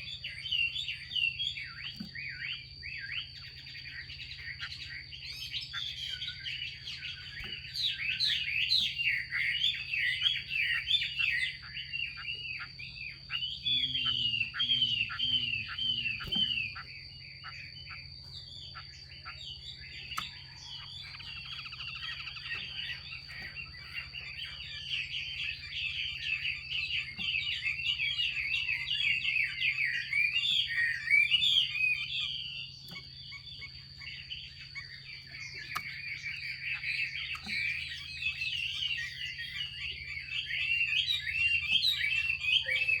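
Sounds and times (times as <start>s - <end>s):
bird chattering call: 0.0s - 43.0s.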